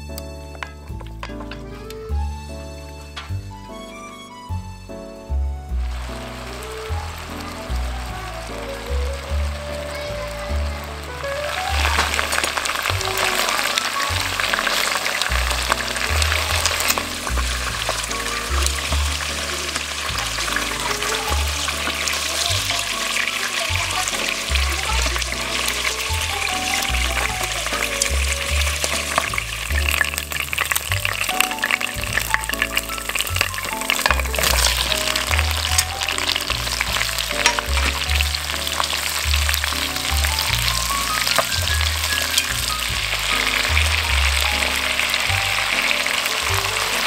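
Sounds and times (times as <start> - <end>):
music with slow bass line: 0.0 - 47.0
oil sizzling in a pan: 5.7 - 47.0.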